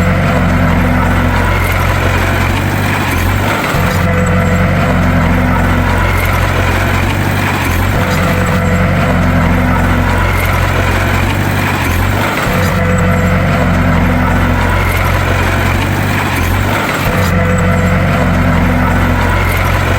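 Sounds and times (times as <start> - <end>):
bulldozer diesel engine running: 0.0 - 19.9.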